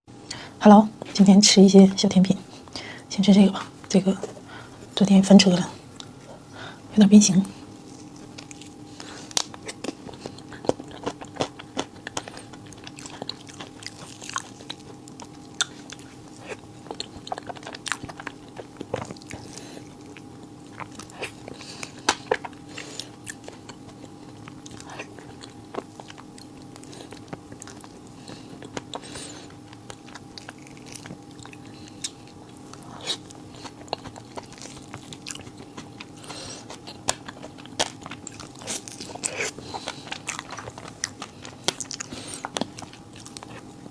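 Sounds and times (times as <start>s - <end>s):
faint steady hum: 0.1s - 43.9s
crunchy chewing: 7.4s - 43.9s.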